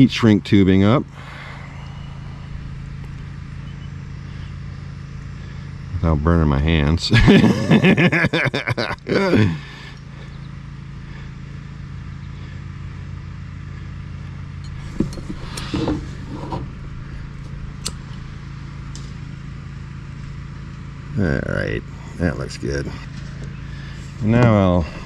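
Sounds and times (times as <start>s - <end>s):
heat gun fan humming: 0.0s - 25.0s.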